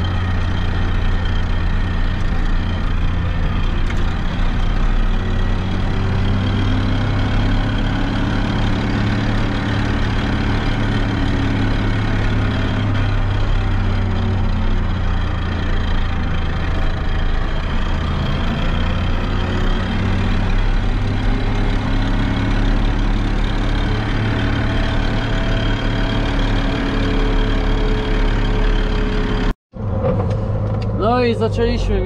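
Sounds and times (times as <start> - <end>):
tractor diesel engine droning: 0.0 - 32.0.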